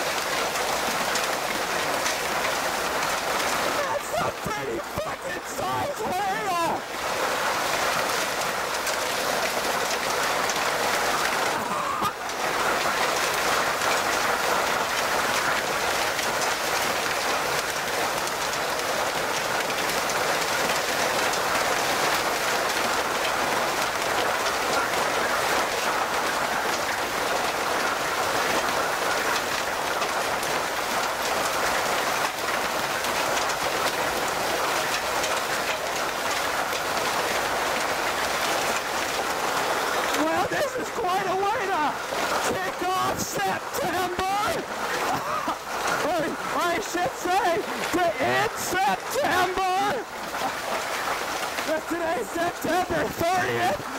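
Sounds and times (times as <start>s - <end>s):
hail and rain pelting ground: 0.0s - 53.9s
hail on wooden table: 0.0s - 53.9s.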